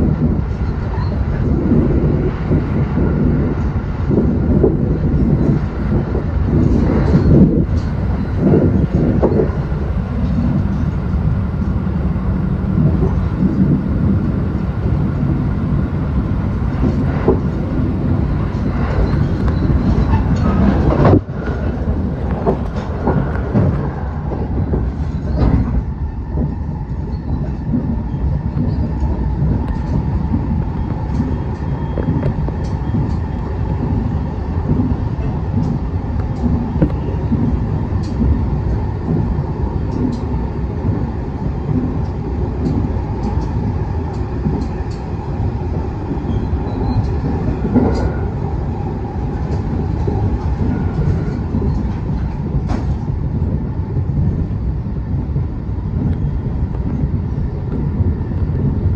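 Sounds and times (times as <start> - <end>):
train rumble from inside: 0.0 - 58.9.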